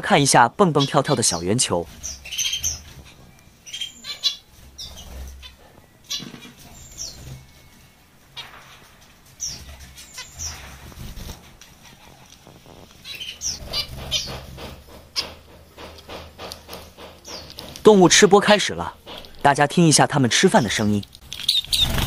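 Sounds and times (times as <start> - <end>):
wing flutters: 1.2 - 19.5, 20.7 - 22.0.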